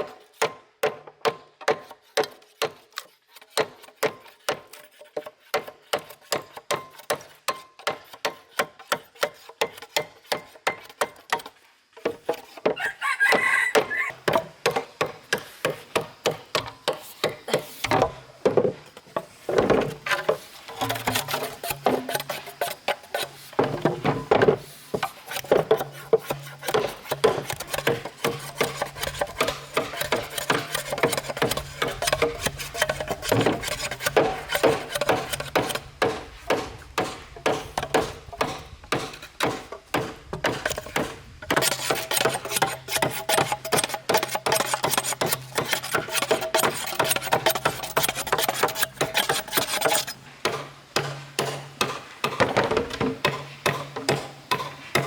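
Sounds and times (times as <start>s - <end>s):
hand tool rasping on bamboo: 0.0s - 55.0s.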